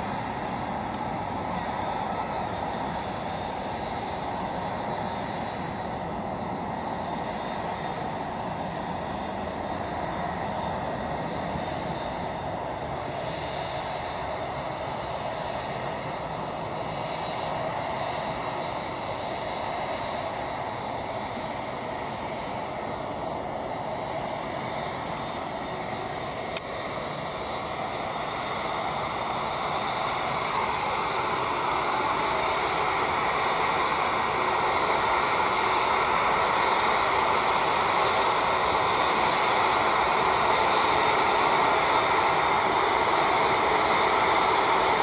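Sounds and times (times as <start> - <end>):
faint high whine: 0.0 - 45.0
jet engines running: 0.0 - 45.0.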